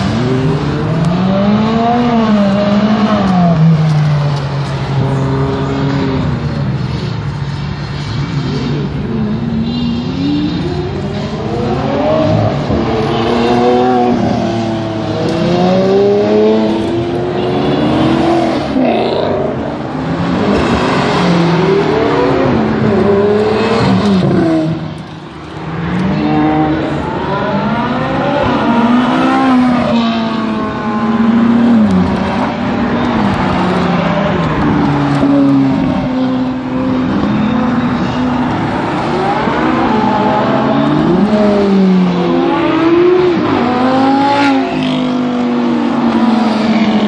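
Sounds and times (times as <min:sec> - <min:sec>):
sports cars accelerating hard: 0:00.0 - 0:07.2, 0:08.0 - 0:47.0.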